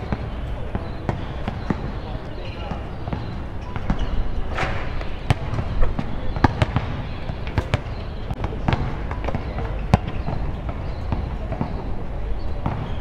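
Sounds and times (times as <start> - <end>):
basketballs bouncing on hard court: 0.0 - 4.2, 4.8 - 13.0.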